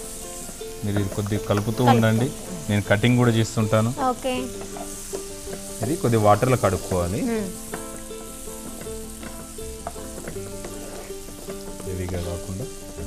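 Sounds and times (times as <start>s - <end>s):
onions sizzling in a pan: 0.0s - 13.0s
wooden spatula scraping a pan: 0.0s - 13.0s.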